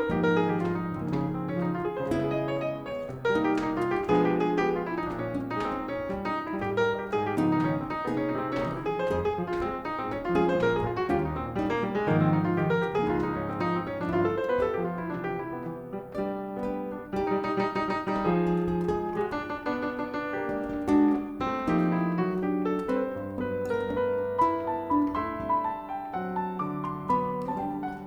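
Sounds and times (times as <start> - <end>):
acoustic piano chords: 0.0 - 28.0
live jazz: 0.0 - 28.0.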